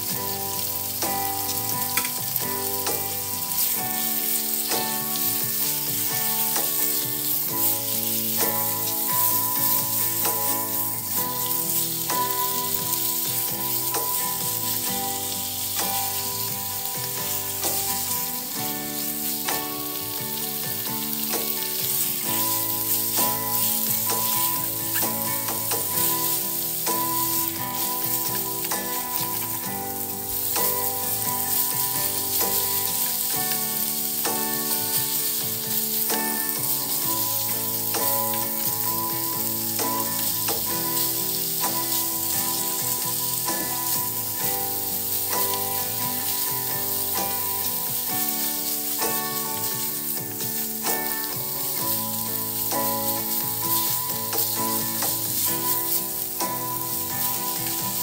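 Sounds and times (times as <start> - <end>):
background music: 0.0 - 58.0
food sizzling in hot oil: 0.0 - 58.0.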